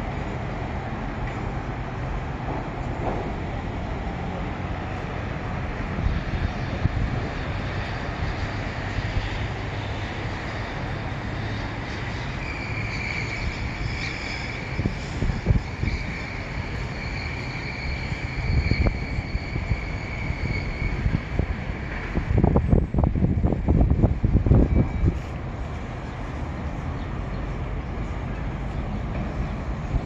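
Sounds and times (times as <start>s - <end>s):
city traffic: 0.0s - 30.0s
wind rumbling on microphone: 0.0s - 30.0s.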